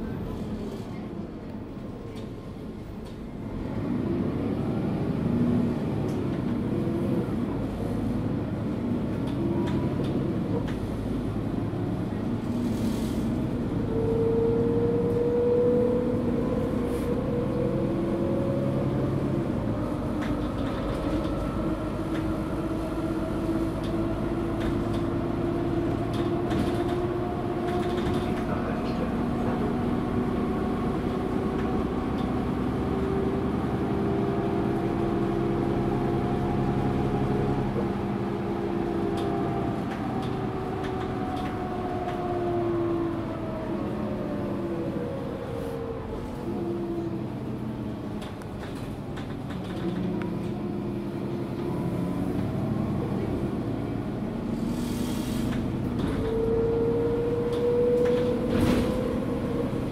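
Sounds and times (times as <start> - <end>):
diesel engine: 0.0 - 59.9.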